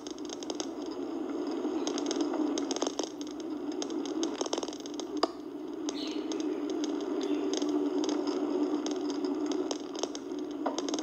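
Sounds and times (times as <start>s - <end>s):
bicycle rolling road noise: 0.0s - 11.0s
bike rattles and clicks: 0.0s - 11.0s.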